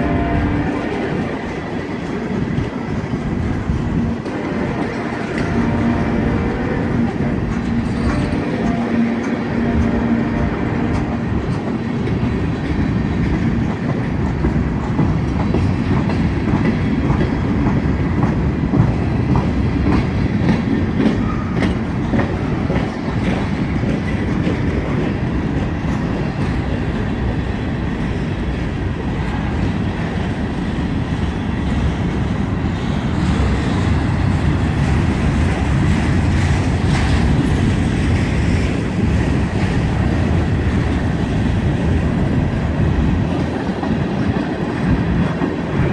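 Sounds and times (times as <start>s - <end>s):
train rolling noise: 0.0s - 45.9s
train wheels clacking: 0.0s - 45.9s.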